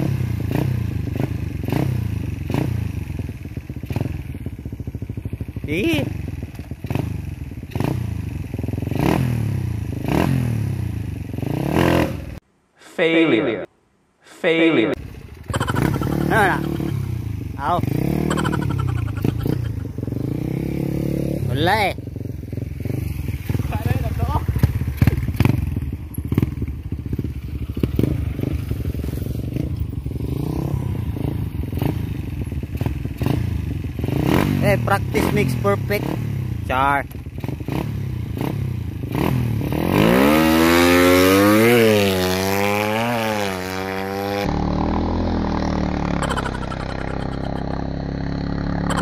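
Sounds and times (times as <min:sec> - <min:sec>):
motorcycle engine revving: 0:00.0 - 0:12.4, 0:15.0 - 0:49.0.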